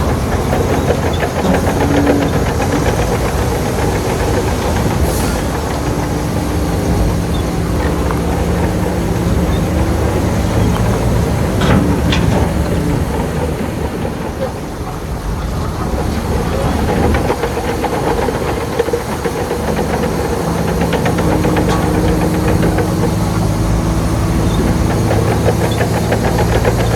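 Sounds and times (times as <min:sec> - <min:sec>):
heavy machinery diesel engine: 0:00.0 - 0:26.9.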